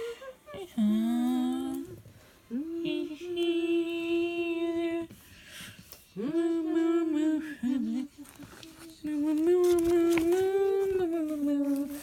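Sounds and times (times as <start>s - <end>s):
woman singing long notes: 0.0s - 5.1s, 6.2s - 12.0s.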